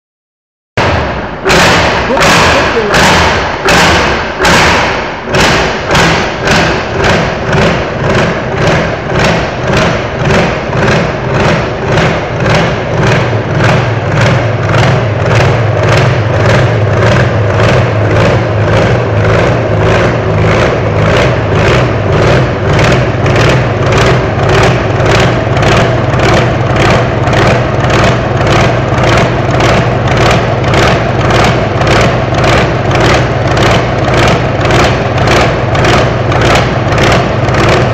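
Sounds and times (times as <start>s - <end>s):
engine running with loud pulsing: 0.8s - 37.9s.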